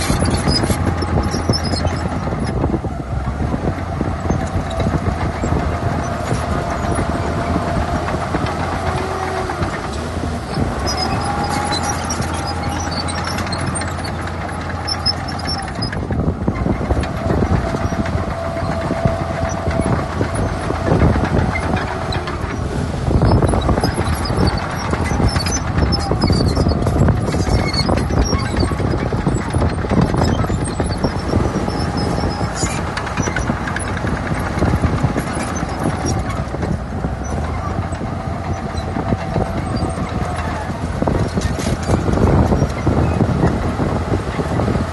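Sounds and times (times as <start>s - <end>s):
diesel machinery engine drone: 0.0s - 44.9s
machinery clanking and rattling: 0.0s - 44.9s.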